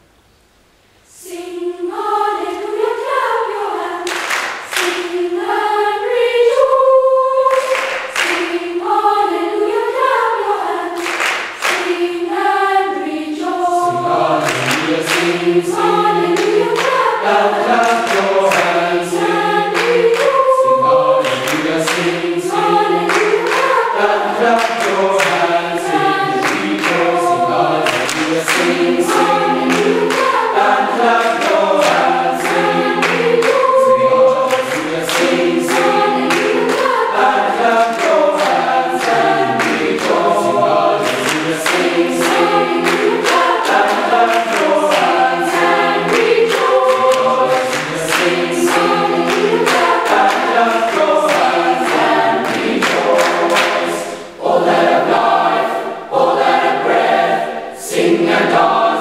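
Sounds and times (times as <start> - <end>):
boys' choir singing: 1.1 - 59.0
rhythmic hand claps: 4.0 - 5.8, 7.4 - 9.2, 10.9 - 12.5, 13.4 - 55.6, 56.2 - 59.0.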